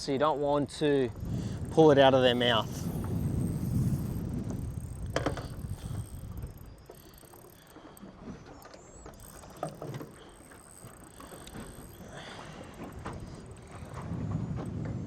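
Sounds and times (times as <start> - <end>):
fishing reel ratcheting: 0.0 - 14.4
wind and boat rumble: 0.0 - 15.0.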